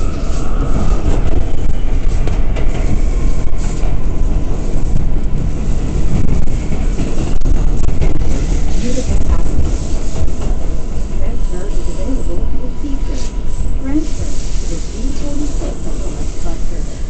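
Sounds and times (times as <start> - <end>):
subway wheels rumbling on rails: 0.0 - 17.0.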